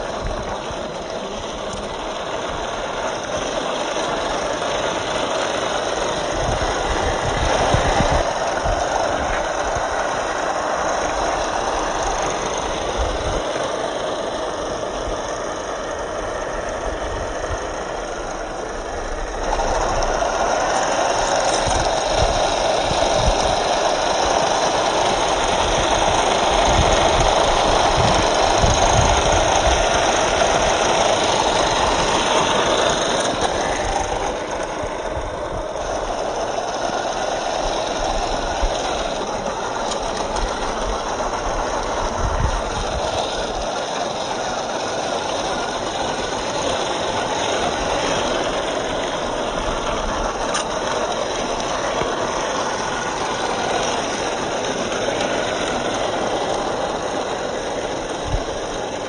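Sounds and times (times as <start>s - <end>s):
rc truck electric motor: 0.0s - 59.0s
tyres rattling over gravel: 0.0s - 59.0s.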